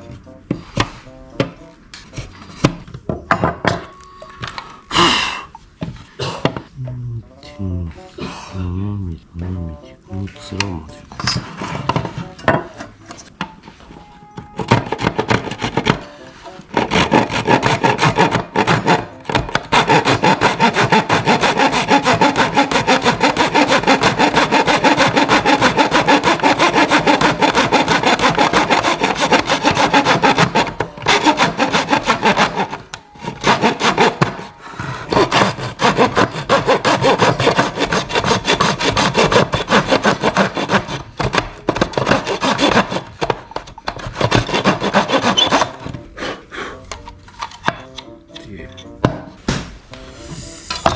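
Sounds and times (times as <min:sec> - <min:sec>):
hand tool rasping: 0:00.0 - 0:06.6, 0:10.1 - 0:50.9.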